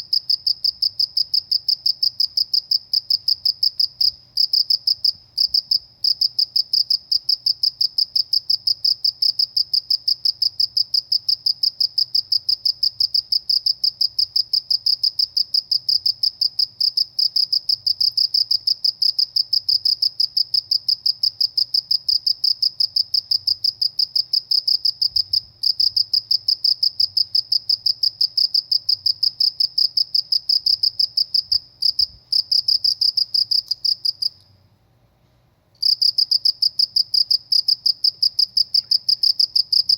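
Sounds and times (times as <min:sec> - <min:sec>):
cricket chirping: 0:00.0 - 0:34.6, 0:35.8 - 0:39.9.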